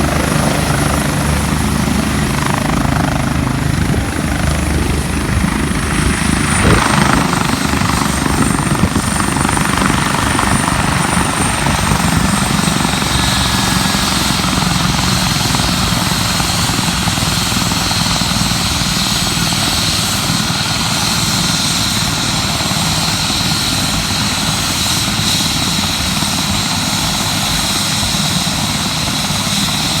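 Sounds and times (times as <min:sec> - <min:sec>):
high turbine whine: 0:00.0 - 0:29.9
helicopter rotor noise: 0:00.0 - 0:30.0.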